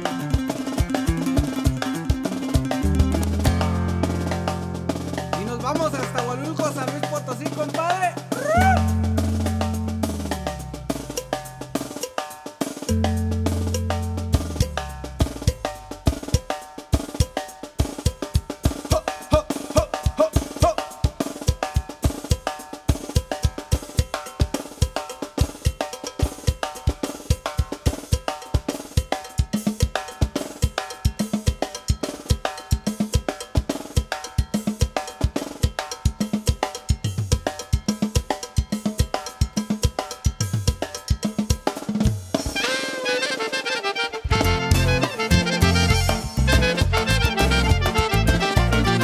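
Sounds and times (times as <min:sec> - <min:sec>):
drum kit fast beat: 0:00.0 - 0:49.0.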